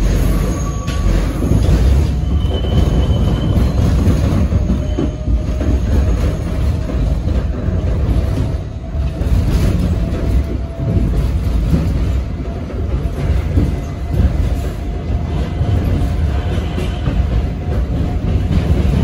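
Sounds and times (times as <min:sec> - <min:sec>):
subway car rumbling on track: 0:00.0 - 0:19.0.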